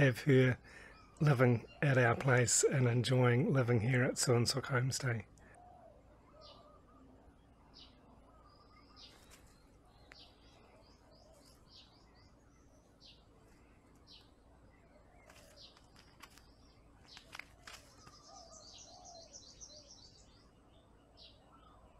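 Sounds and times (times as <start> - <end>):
songbirds chirping: 0.0 - 21.9.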